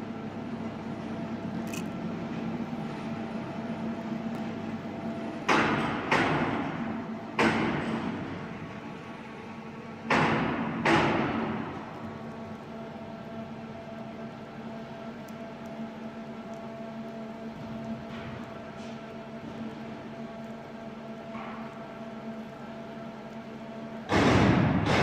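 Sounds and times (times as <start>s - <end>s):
furnace humming: 0.0s - 25.0s.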